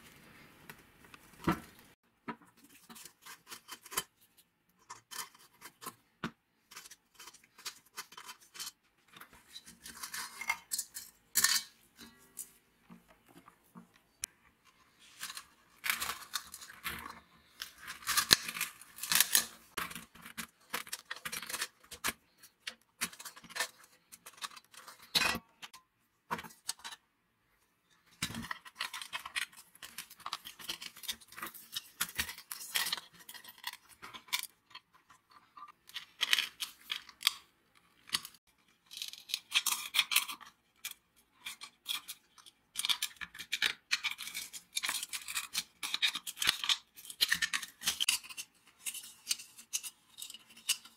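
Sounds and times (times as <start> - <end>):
thin metal pans being handled: 6.7 - 13.5, 14.7 - 27.0, 28.1 - 50.9.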